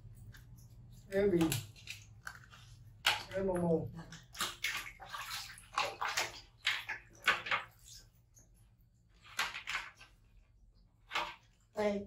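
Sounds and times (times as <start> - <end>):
water splashing in a washbasin: 0.0 - 12.0.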